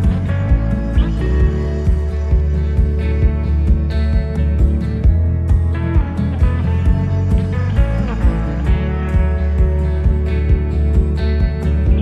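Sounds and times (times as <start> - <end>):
background music with acoustic guitar: 0.0 - 12.0.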